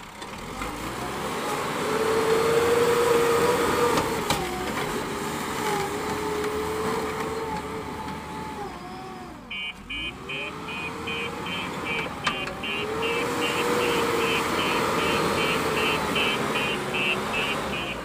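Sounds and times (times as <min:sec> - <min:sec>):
diesel engine working hard: 0:00.0 - 0:18.0.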